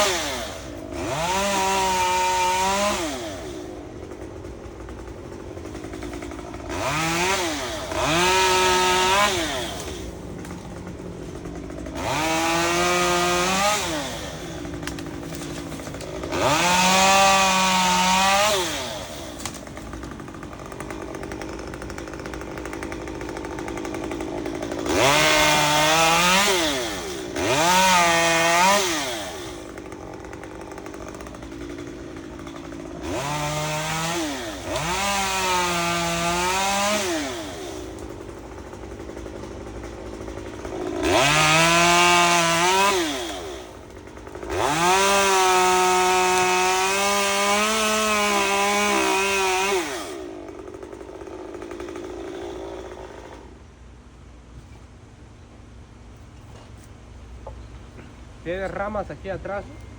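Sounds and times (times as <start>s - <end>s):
chainsaw revving and idling: 0.0s - 53.7s, 56.8s - 59.9s.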